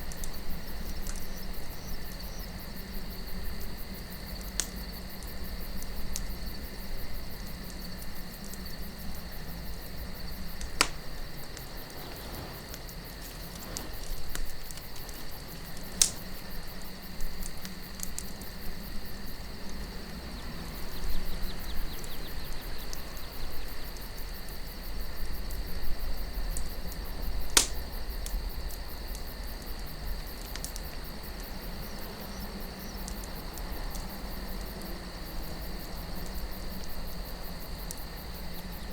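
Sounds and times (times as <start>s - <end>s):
campfire crackling: 0.0s - 38.9s
crickets chirping: 0.0s - 38.9s
low wind rumble: 0.0s - 38.9s.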